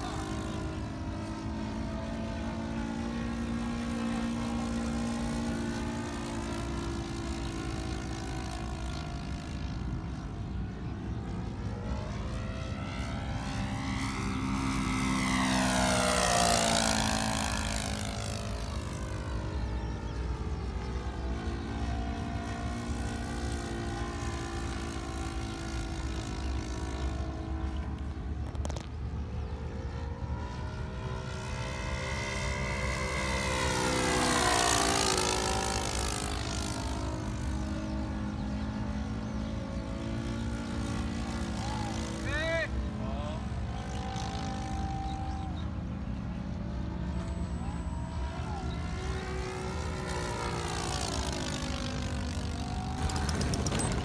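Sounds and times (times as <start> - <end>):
model airplane engine passing: 0.0 - 54.0.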